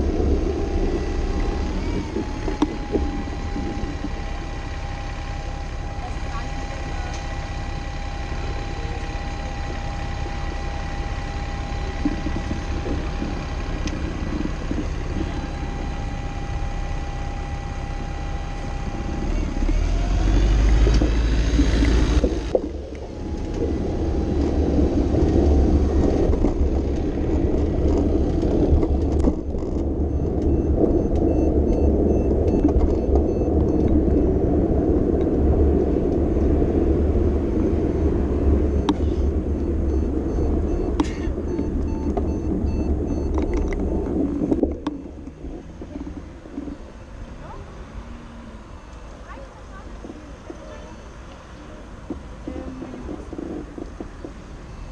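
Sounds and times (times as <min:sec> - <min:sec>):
faint steady whine: 0:00.0 - 0:54.9
traffic rumble: 0:00.0 - 0:54.9.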